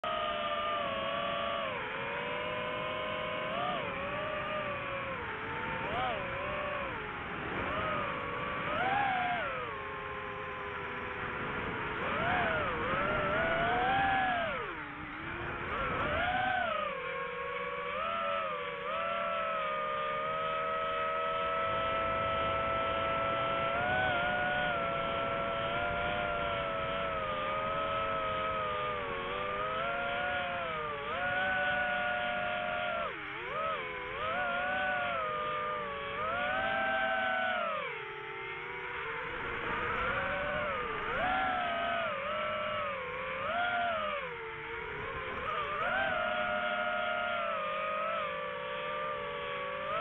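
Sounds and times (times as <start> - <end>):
drone propellers whining: 0.0 - 50.0.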